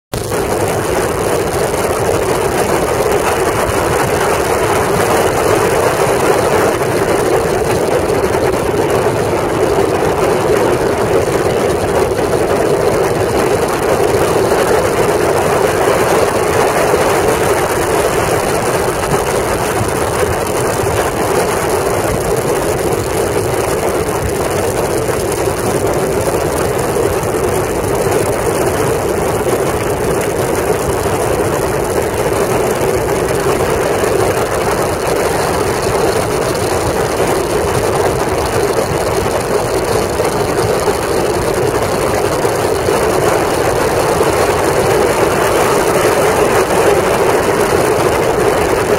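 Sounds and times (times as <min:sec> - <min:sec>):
radial aircraft engine drone: 0:00.1 - 0:48.9
wind rush: 0:00.1 - 0:48.9.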